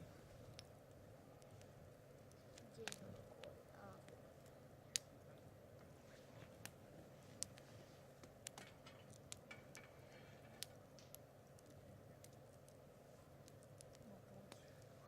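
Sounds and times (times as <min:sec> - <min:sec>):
campfire crackling and popping: 0:00.0 - 0:15.0
low steady background noise: 0:00.0 - 0:15.0.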